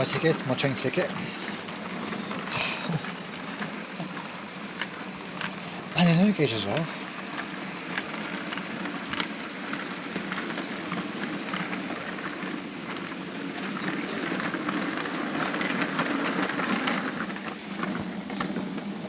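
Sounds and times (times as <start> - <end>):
model train wheels rumbling on track: 0.0 - 19.0.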